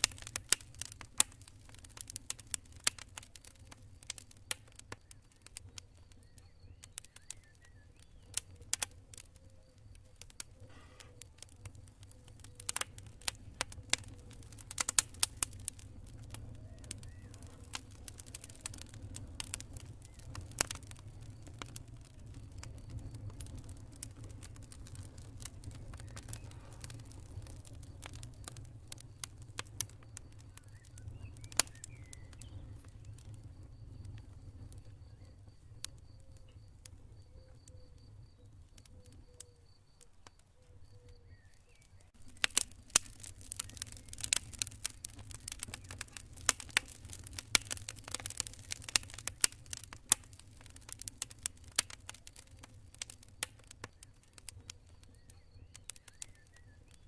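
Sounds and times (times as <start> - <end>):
campfire rumble: 0.0 - 57.0
fire crackles and pops: 0.0 - 57.0.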